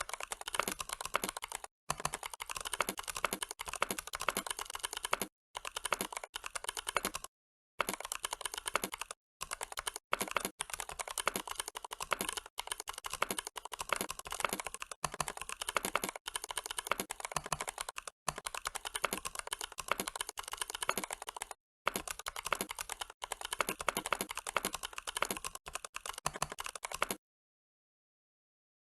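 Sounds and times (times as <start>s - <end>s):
fast typing on keyboard: 0.0s - 27.2s.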